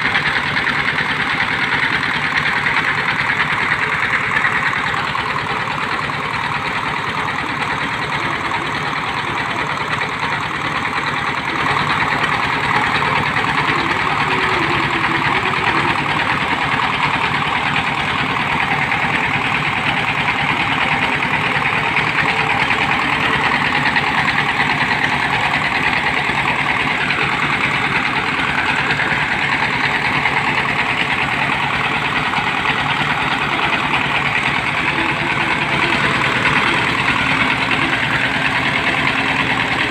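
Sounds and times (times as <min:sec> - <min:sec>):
drilling machine engine running: 0:00.0 - 0:39.9.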